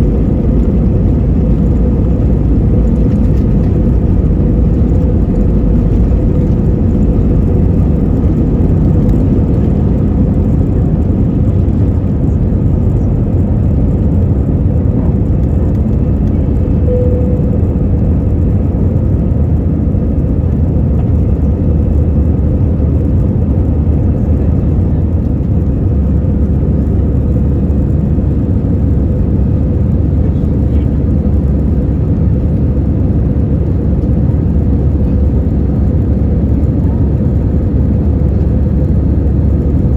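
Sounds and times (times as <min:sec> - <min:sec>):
aircraft cabin airflow and engines: 0:00.0 - 0:39.9.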